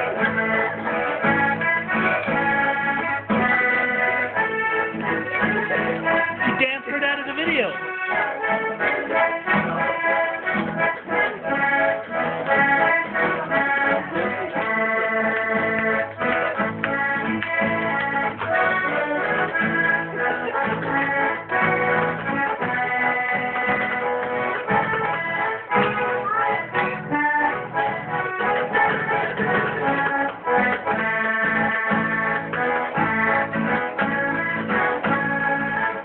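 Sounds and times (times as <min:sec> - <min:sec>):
button accordion playing: 0:00.0 - 0:36.0.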